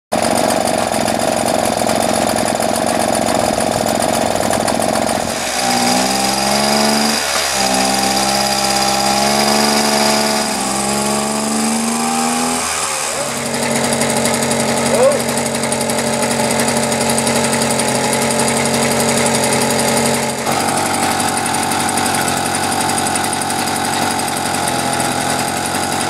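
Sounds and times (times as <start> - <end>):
moped engine running: 0.1 - 26.0.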